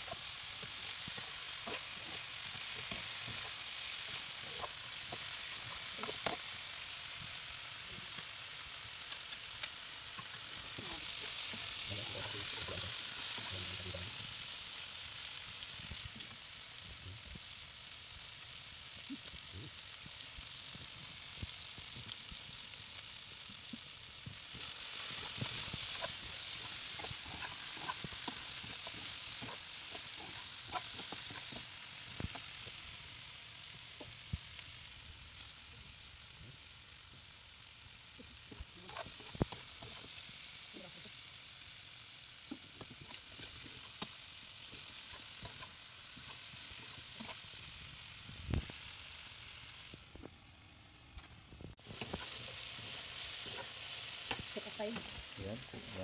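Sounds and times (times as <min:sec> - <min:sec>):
chicken sizzling in a pan: 0:00.0 - 0:56.0.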